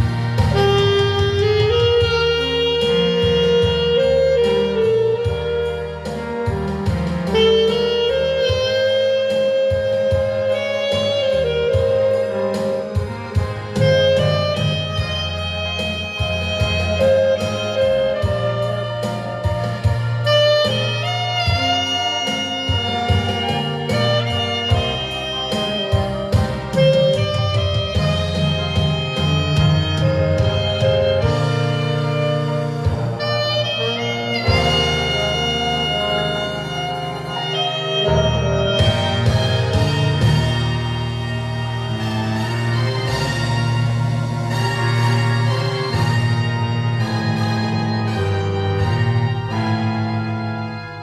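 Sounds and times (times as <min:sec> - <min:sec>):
band with bass and drums: 0:00.0 - 0:51.0
saxophone melody: 0:00.0 - 0:51.0.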